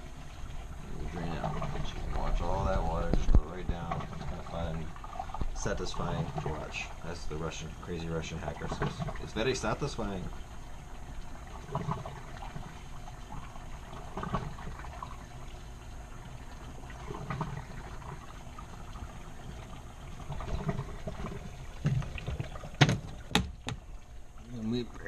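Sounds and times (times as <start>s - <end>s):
water draining through hose: 0.0s - 25.0s.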